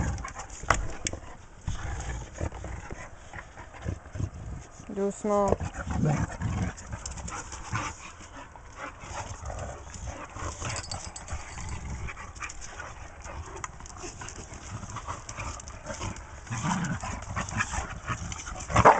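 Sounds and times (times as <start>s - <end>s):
dogs play-fighting: 0.0s - 18.9s
paws scuffling on concrete: 0.0s - 18.9s.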